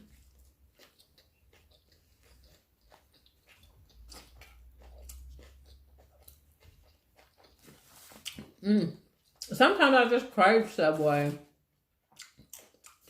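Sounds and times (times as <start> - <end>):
person chewing food: 0.0 - 9.5, 11.8 - 13.0.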